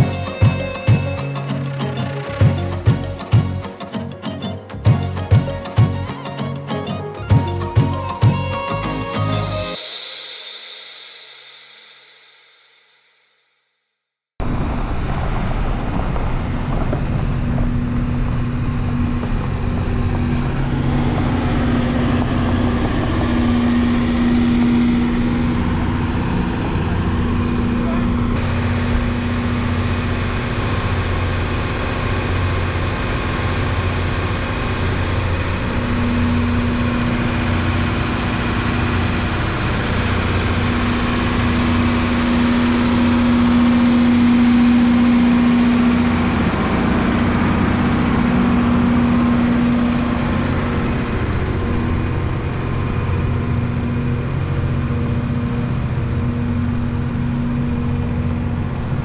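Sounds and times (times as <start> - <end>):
train engine rumbling: 0.0 - 9.9, 14.5 - 59.0.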